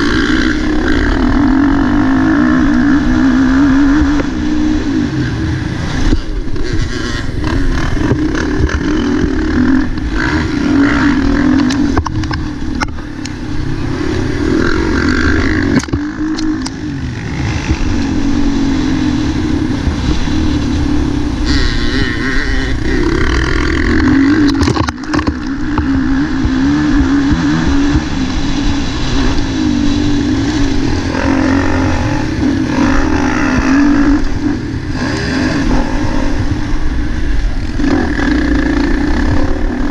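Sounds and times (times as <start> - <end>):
motocross bike engine revving: 0.0 - 39.9
wind noise: 0.0 - 39.9.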